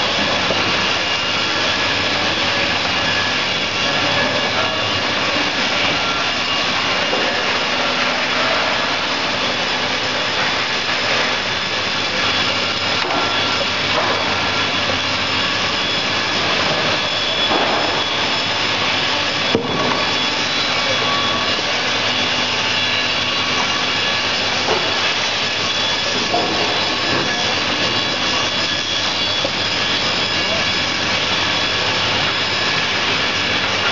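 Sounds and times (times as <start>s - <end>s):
saw machine running with whine: 0.0s - 33.9s.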